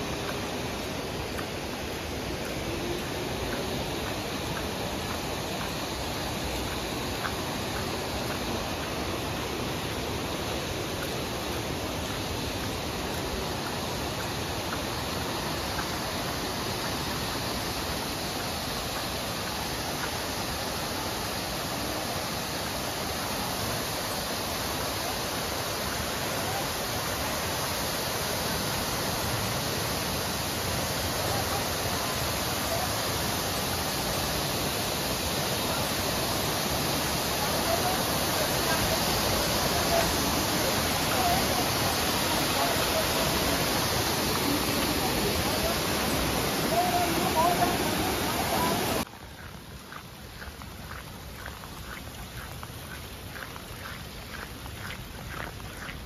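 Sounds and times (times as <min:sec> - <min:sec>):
rushing river water: 0:00.0 - 0:56.0.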